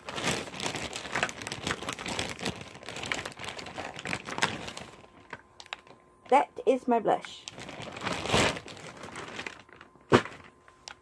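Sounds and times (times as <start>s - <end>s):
rustling and crinkling packaging: 0.0s - 6.4s, 7.1s - 11.0s.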